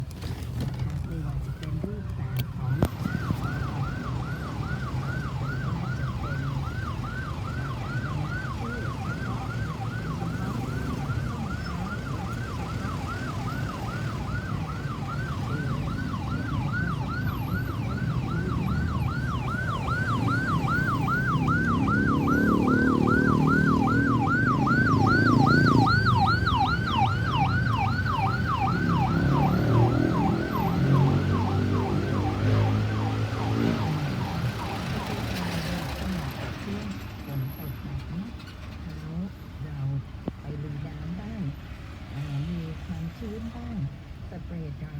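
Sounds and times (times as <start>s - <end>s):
road traffic rumble: 0.0s - 44.9s
ambulance siren yelping: 1.7s - 38.4s.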